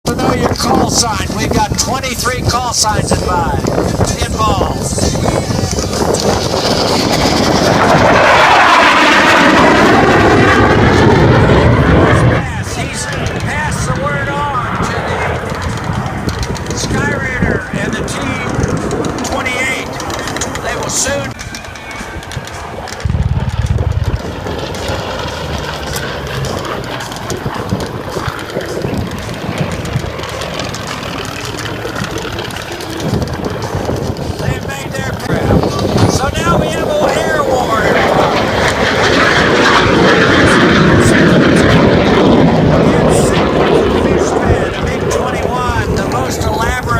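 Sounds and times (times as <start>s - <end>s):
military aircraft flying past: 0.1s - 46.9s.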